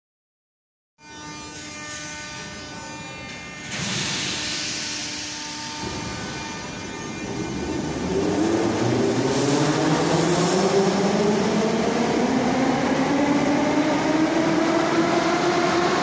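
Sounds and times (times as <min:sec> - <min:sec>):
metro train motors whining: 0:01.2 - 0:16.0.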